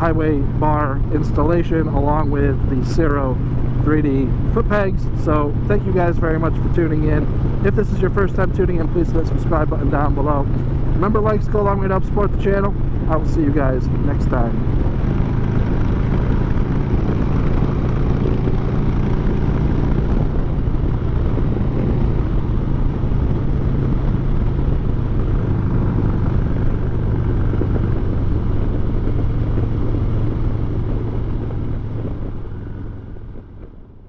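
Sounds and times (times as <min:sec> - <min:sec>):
motorcycle engine cruising: 0:00.0 - 0:34.0
road noise: 0:00.0 - 0:34.0
wind noise: 0:00.0 - 0:34.0.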